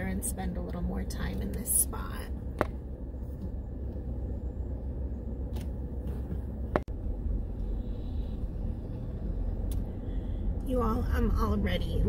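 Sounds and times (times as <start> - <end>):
vehicle rumble on dirt road: 0.0 - 12.0.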